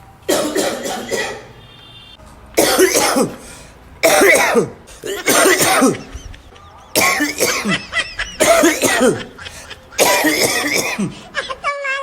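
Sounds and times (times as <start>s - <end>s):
person coughing hard: 0.3s - 1.6s, 2.6s - 6.3s, 7.0s - 11.6s.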